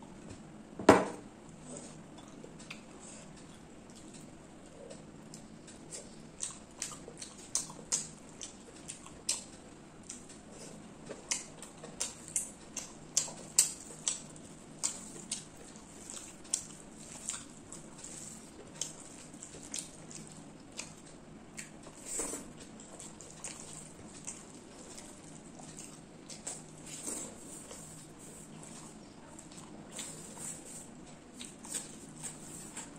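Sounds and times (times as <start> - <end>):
wet chewing sounds: 1.9 - 32.9.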